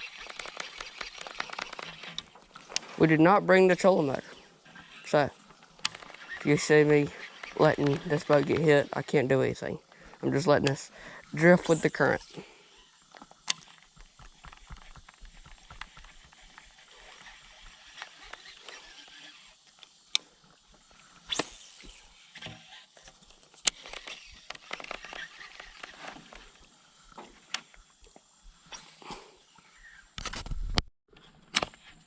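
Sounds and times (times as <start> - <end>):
fishing reel clicks: 0.0 - 2.8, 3.7 - 28.0
low hiss: 0.0 - 30.2.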